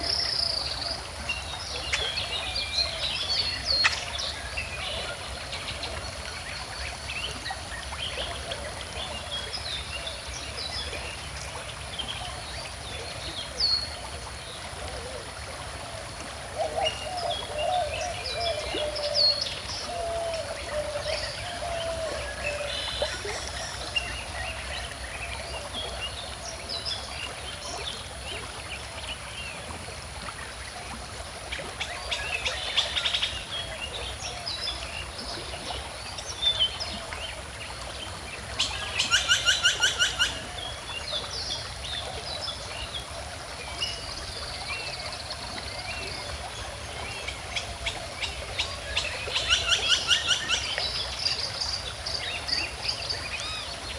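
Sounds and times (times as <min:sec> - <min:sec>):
small stream flowing: 0:00.0 - 0:53.9.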